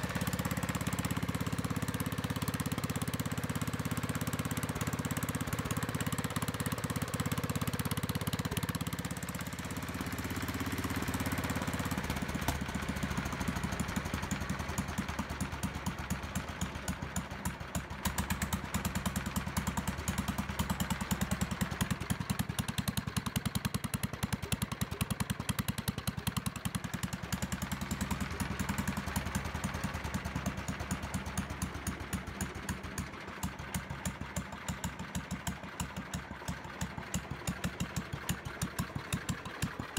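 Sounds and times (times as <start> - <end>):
rotavator engine running: 0.0 - 39.9.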